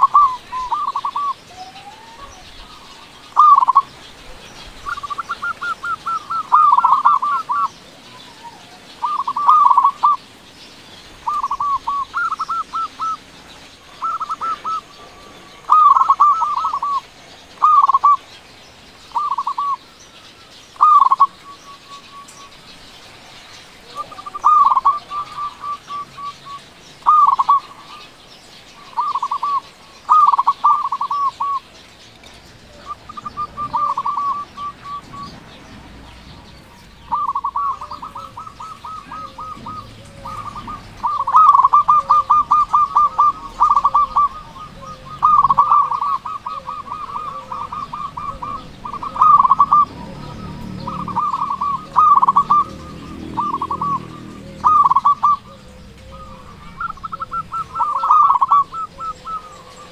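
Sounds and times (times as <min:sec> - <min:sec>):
dove cooing: 0:00.0 - 0:10.4, 0:11.0 - 0:18.4, 0:19.0 - 0:20.0, 0:20.7 - 0:35.8, 0:36.5 - 0:59.9.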